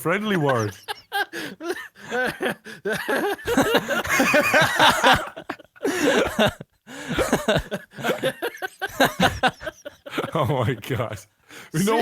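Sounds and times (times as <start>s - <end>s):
wheezing laughter: 0.5s - 10.5s.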